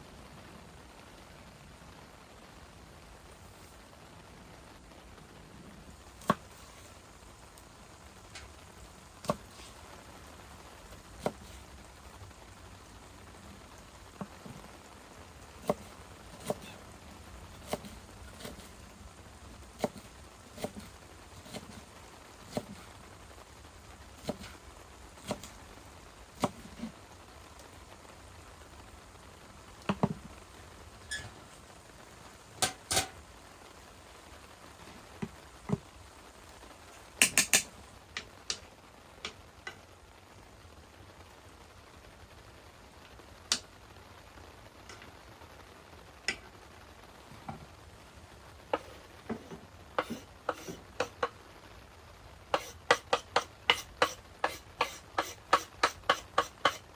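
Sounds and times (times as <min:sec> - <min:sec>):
faint steady hiss: 0:00.0 - 0:56.9.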